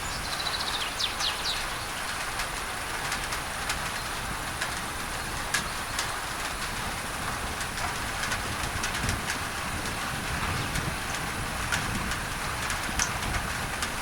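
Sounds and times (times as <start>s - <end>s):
rain on a tin roof: 0.0s - 14.0s.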